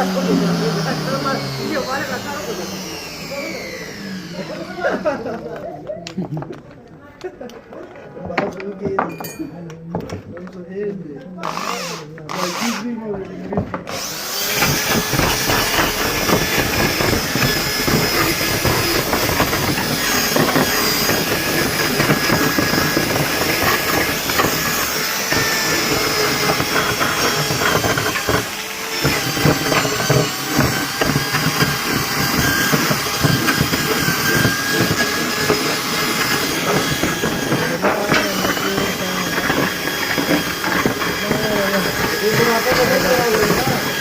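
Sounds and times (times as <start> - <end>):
power tool whining on wood: 0.0 - 6.5, 11.4 - 44.0.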